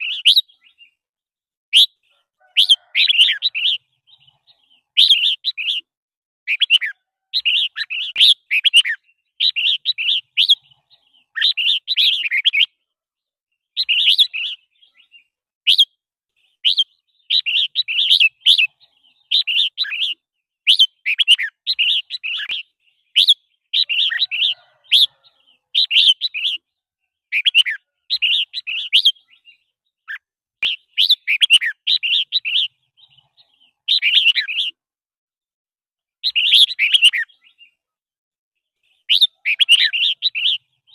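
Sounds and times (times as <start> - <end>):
bird chirping: 0.0 - 1.1, 1.7 - 34.8, 36.1 - 38.0, 38.6 - 40.9.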